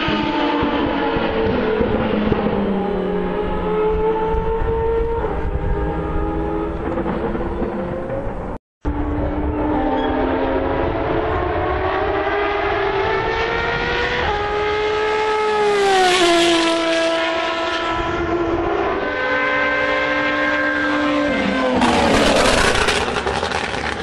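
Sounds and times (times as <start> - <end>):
racing car engines passing by: 0.0 - 24.0.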